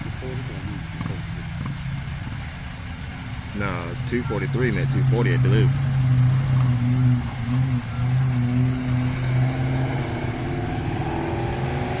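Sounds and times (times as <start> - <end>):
car engines idling: 0.0 - 12.0
car pulling away: 0.0 - 12.0.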